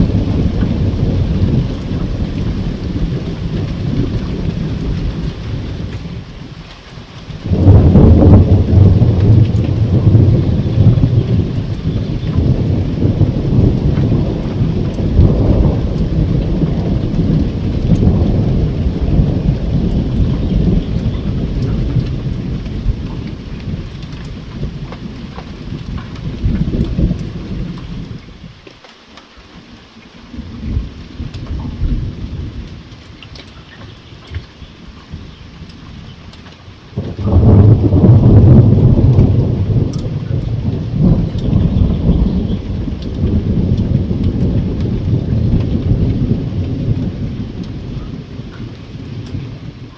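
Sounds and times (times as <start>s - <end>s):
thunder rumbling: 0.0s - 28.6s, 30.3s - 49.9s
steady rain: 0.0s - 49.9s.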